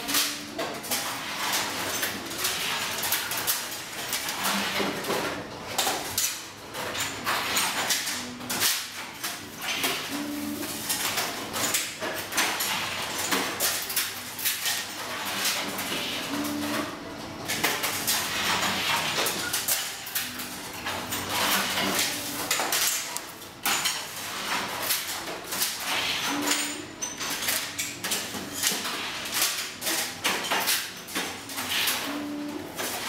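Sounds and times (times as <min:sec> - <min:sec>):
items knocking and rattling: 0:00.0 - 0:33.0.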